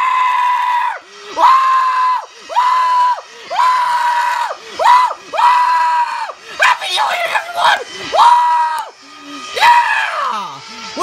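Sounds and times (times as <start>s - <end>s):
high-pitched voice shrieking: 0.0s - 11.0s.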